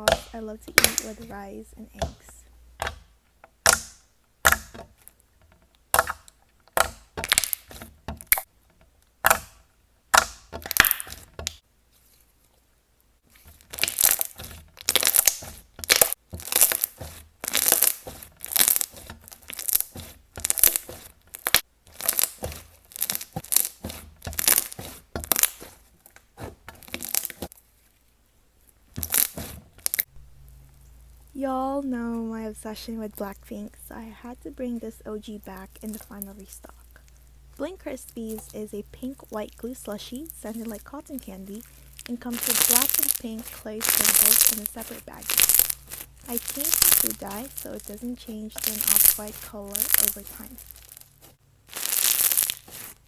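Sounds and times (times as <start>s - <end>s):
slime squished by hand crackling: 0.0s - 5.2s, 5.9s - 8.5s, 9.2s - 11.6s, 13.4s - 27.6s, 28.9s - 30.1s, 31.2s - 53.0s.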